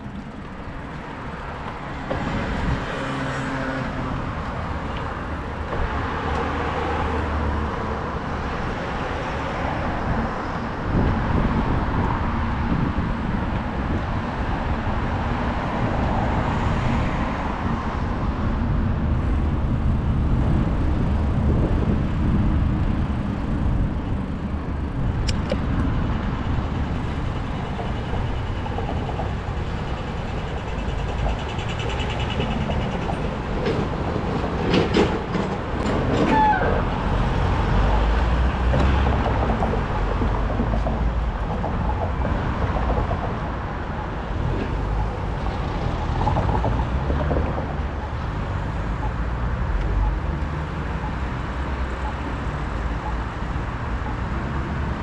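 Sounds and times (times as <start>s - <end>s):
cars passing: 0.0s - 55.0s
low traffic rumble: 0.0s - 55.0s.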